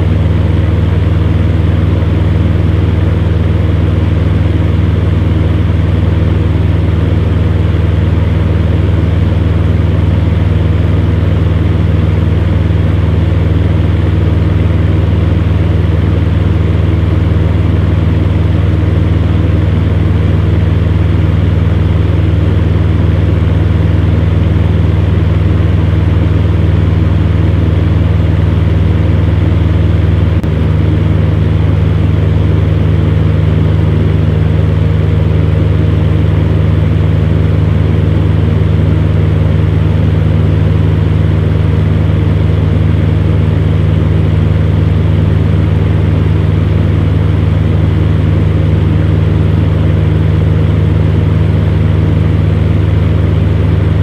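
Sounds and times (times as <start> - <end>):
electric fan running: 0.0 - 54.0.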